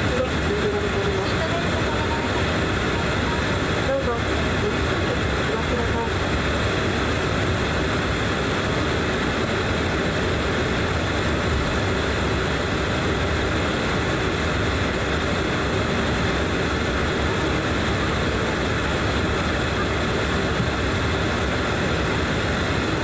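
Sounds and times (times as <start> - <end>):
turboprop engines in aircraft cabin: 0.0 - 23.0.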